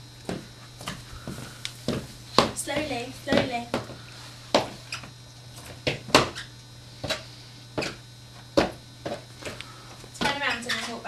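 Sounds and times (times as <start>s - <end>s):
footsteps on tiled floor: 0.2s - 6.4s, 7.0s - 10.5s.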